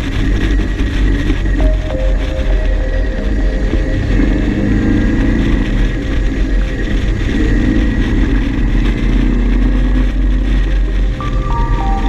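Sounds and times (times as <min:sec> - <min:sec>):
sports car engine running: 0:00.0 - 0:11.8.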